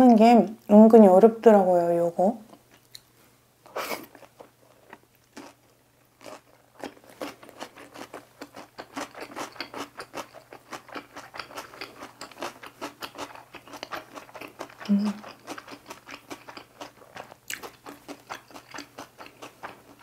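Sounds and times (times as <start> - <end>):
crunchy chewing: 4.0 - 20.0.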